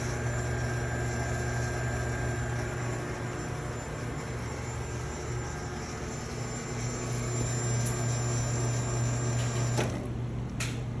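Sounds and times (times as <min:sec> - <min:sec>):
espresso machine pump humming: 0:00.0 - 0:10.5.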